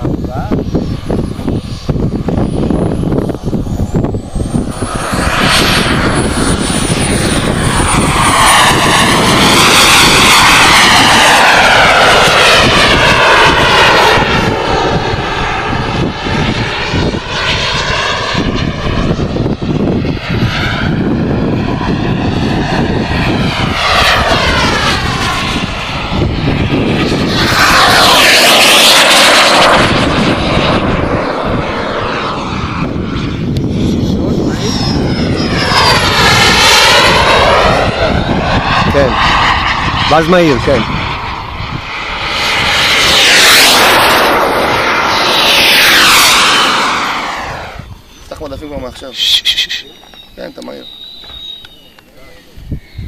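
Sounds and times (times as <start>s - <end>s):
high whine falling in pitch: 0.0s - 20.0s, 20.7s - 53.0s
model jet turbine engine: 0.0s - 53.0s.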